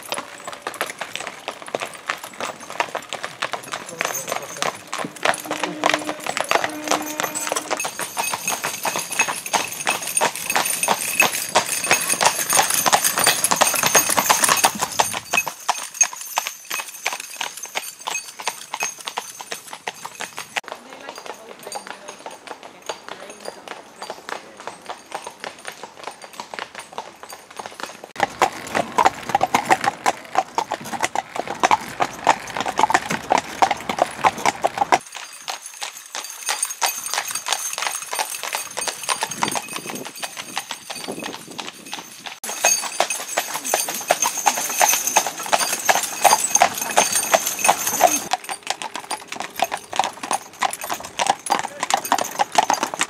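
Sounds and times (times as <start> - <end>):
horse hooves clip-clopping on tarmac: 0.0 - 53.0.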